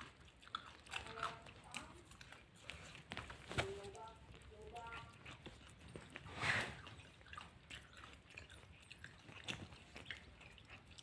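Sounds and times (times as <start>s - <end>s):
person chewing and biting food: 0.0s - 3.2s, 4.9s - 11.0s.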